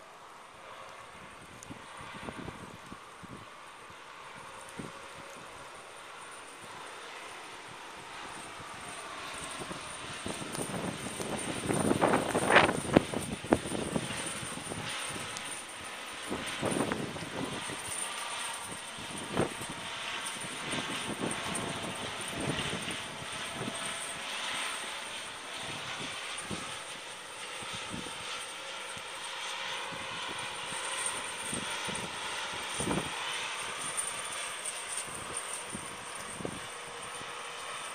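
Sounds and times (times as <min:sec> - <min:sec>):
blizzard wind blowing: 0:00.0 - 0:37.8.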